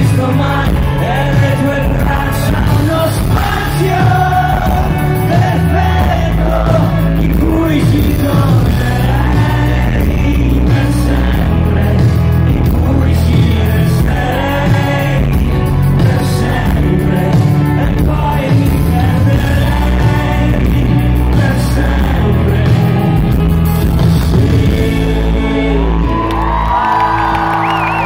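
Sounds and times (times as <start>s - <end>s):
man singing: 0.0s - 26.8s
live rock band: 0.0s - 28.0s.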